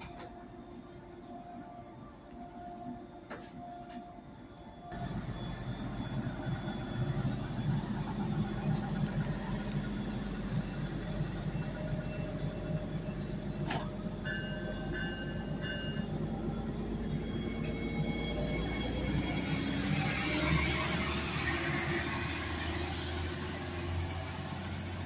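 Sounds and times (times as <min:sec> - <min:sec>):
diesel railcar humming: 0:00.0 - 0:25.0.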